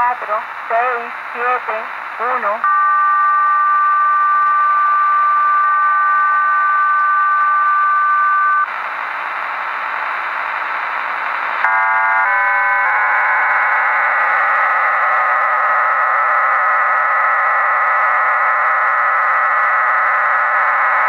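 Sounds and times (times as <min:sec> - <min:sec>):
multi-tone data burst: 0:00.0 - 0:21.0
radio hiss: 0:00.0 - 0:21.0
steady radio tones: 0:00.0 - 0:21.0.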